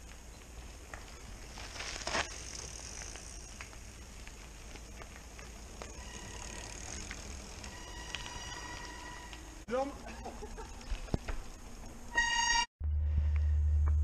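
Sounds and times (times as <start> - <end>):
bike clicks and rattles: 0.0 - 12.0
bike tyres rumbling on gravel: 0.0 - 12.6.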